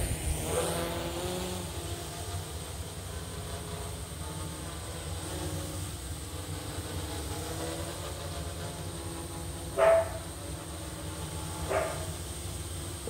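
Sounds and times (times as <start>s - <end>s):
quadcopter hovering hum: 0.0s - 13.0s.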